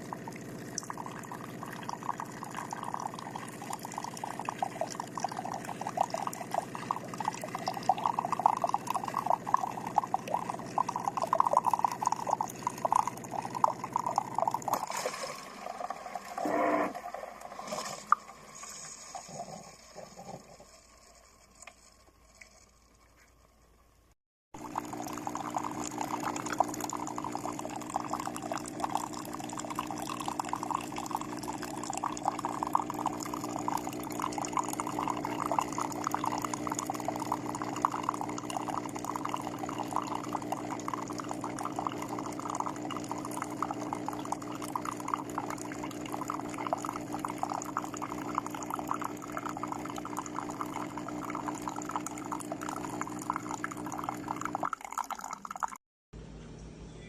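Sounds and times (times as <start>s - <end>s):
coffee trickling into cup: 0.0s - 20.8s, 24.6s - 55.8s
coffee maker humming: 0.0s - 22.6s, 24.6s - 55.8s.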